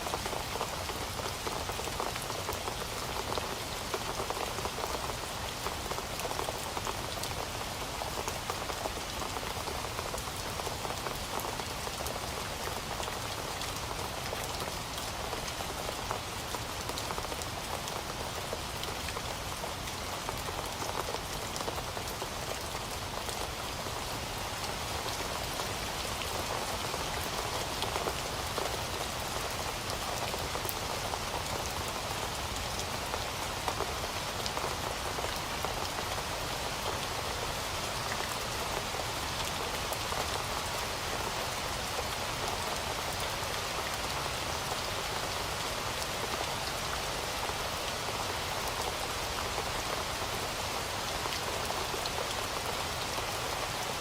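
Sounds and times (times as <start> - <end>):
heavy rain on hard surface: 0.0 - 54.0.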